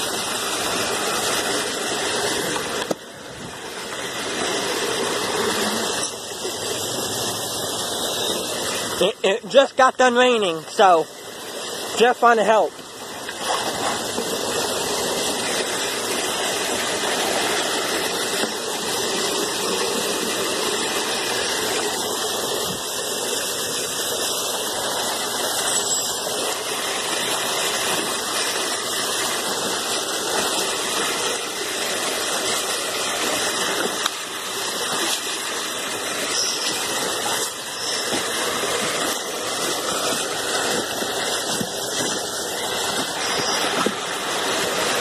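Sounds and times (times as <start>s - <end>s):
floodwater rushing along gutter: 0.0s - 45.0s.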